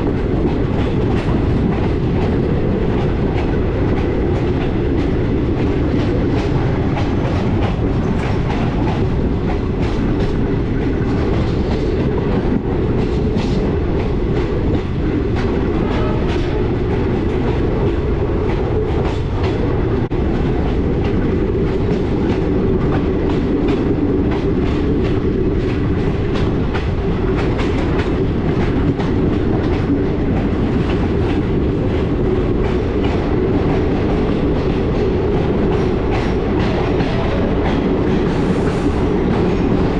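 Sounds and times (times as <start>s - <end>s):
train coaches rumbling: 0.0s - 39.9s
wheels clacking over rail joints: 0.0s - 39.9s.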